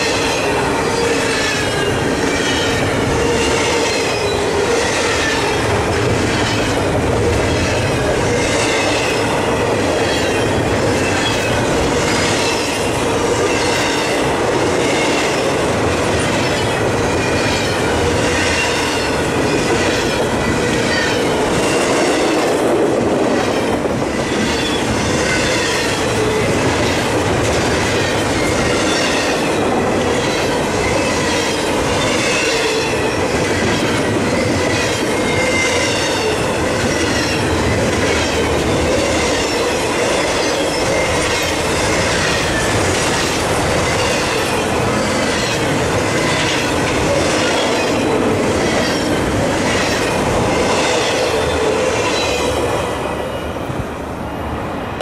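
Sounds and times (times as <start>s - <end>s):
wheels clattering on rails: 0.0s - 53.8s
freight train rolling past: 0.0s - 55.0s.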